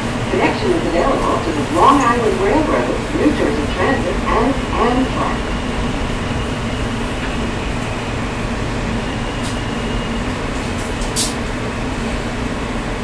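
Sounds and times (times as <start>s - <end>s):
subway wheels rumbling: 0.0s - 13.0s.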